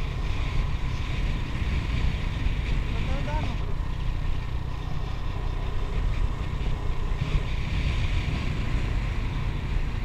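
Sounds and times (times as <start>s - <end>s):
road and vehicle noise: 0.0s - 10.0s
wind buffeting microphone: 0.0s - 10.0s.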